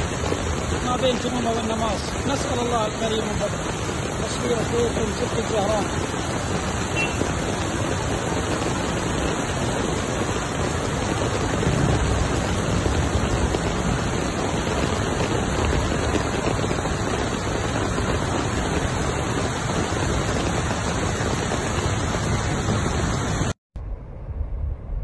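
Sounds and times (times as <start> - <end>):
flood water rushing: 0.0 - 23.6.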